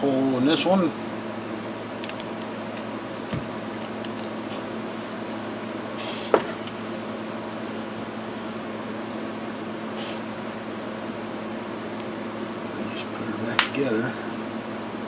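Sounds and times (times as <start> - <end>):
bench equipment humming: 0.0 - 15.0.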